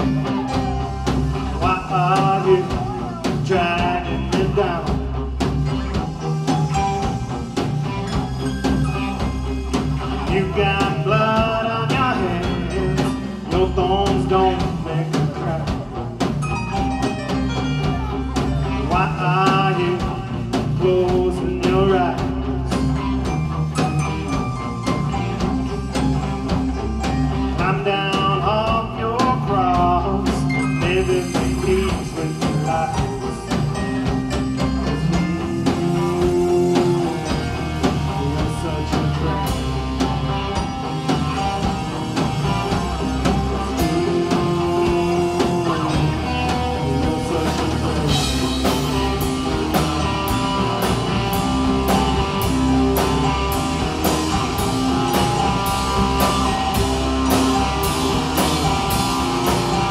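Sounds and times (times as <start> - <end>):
bending lead melody: 0.0 - 59.9
live rock band playing: 0.0 - 59.9.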